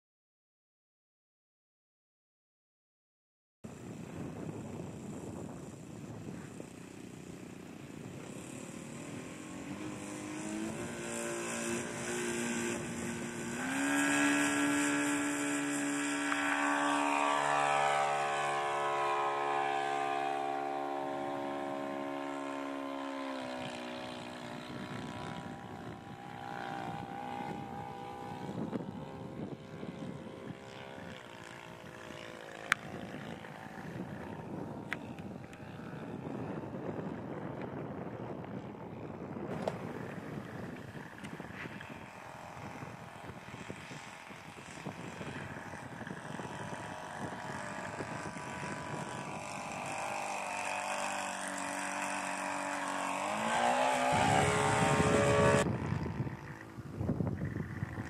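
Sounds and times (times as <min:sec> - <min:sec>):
model plane propeller engine: 0:03.7 - 0:58.0.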